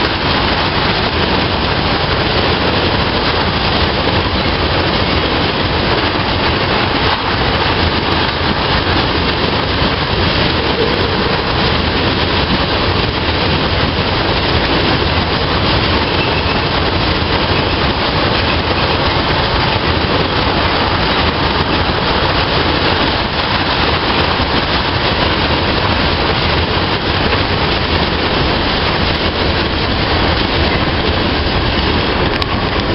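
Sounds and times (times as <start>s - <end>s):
train wheels rumbling on track: 0.0s - 32.9s.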